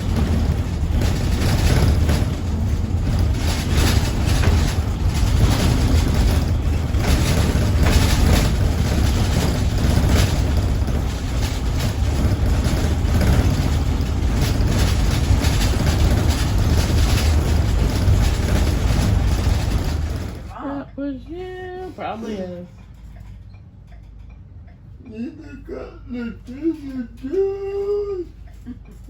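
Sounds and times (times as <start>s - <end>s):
car engine rumble: 0.0s - 24.3s.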